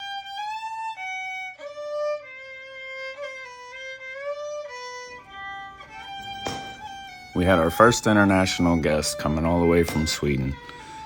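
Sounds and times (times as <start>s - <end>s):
solo fiddle slow melody: 0.0s - 11.0s.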